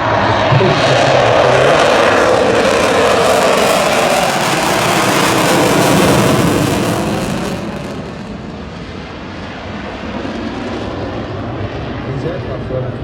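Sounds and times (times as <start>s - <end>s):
jet engines on afterburner: 0.0s - 13.0s.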